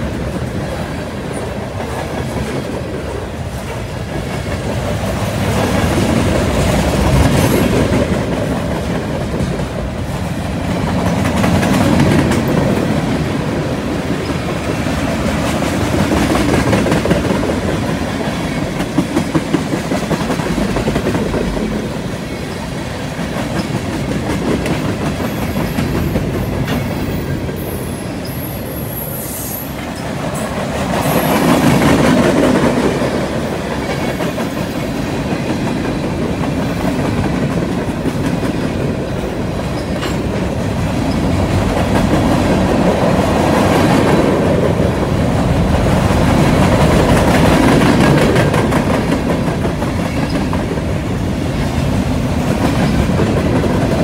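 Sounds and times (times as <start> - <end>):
steel wheels clacking over rail joints: 0.0 - 28.4, 29.8 - 54.0
freight train cars rolling past: 0.0 - 54.0.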